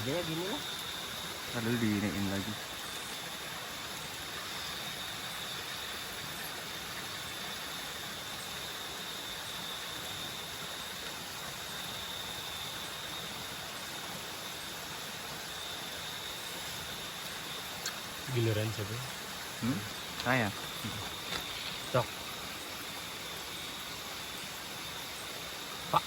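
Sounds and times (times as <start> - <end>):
insect trilling: 0.0 - 26.0.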